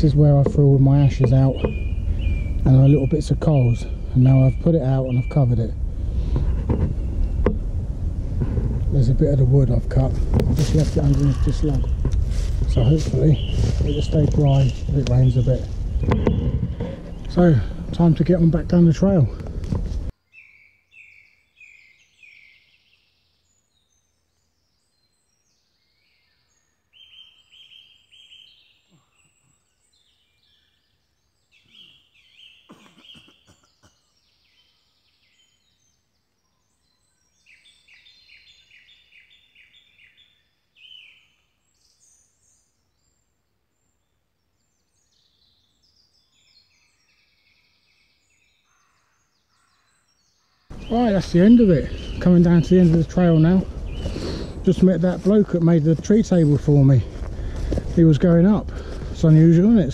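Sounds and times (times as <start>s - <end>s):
faint songbirds singing: 0.0s - 7.8s, 8.8s - 59.9s.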